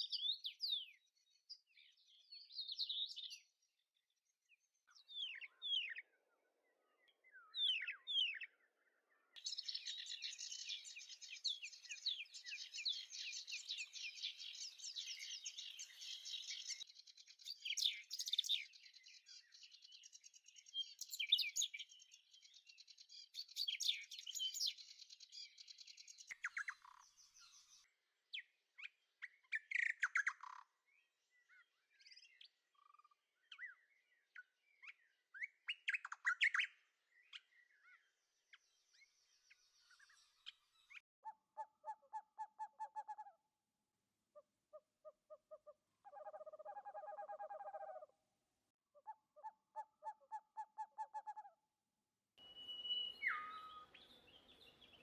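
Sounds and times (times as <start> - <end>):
birds chirping and trilling: 0.0 - 43.5, 44.4 - 48.3, 49.0 - 51.5, 52.4 - 55.0.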